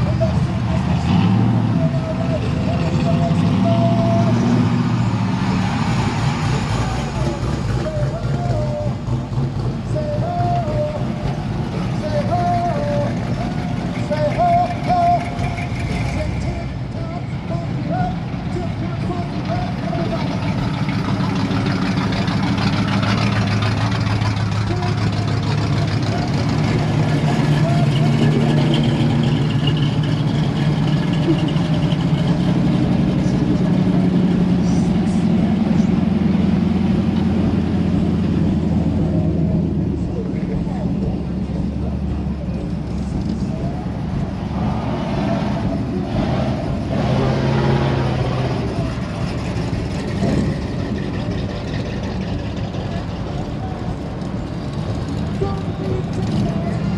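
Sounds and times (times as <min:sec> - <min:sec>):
car engine idling: 0:00.0 - 0:56.9
crowd voices: 0:00.0 - 0:56.9.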